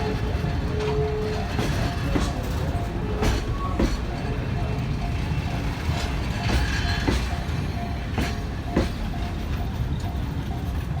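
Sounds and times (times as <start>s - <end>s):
crossing warning bell ringing: 0.0s - 11.0s
train rumbling over crossing: 0.0s - 11.0s
wheels clacking over rail joints: 0.0s - 11.0s.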